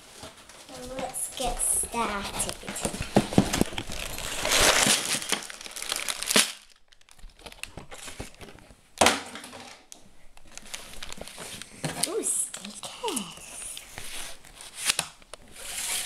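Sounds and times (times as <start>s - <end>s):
plastic bags crinkling: 0.0s - 8.7s, 9.3s - 16.0s.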